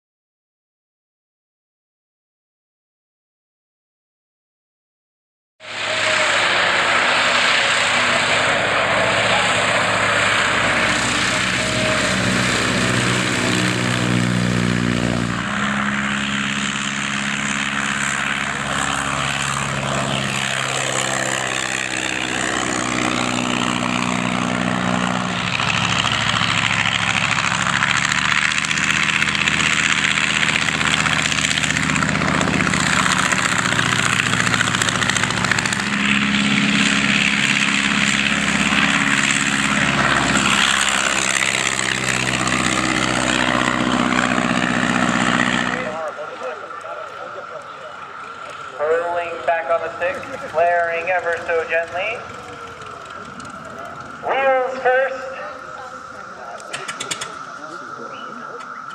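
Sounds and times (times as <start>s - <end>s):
biplane piston engines: 5.6s - 58.9s
propeller drone: 5.6s - 58.9s.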